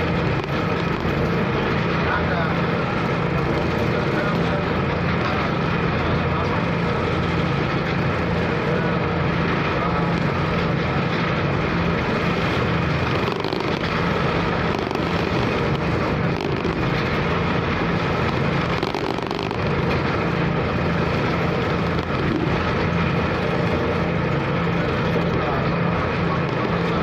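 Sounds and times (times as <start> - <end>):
ferry engine droning: 0.0 - 27.0
waves: 0.0 - 27.0.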